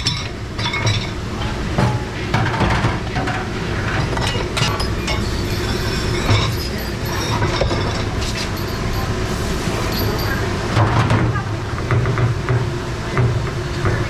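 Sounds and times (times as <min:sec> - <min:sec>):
dishes and racks clinking: 0:00.0 - 0:12.6
dish machine rumbling: 0:00.0 - 0:14.0.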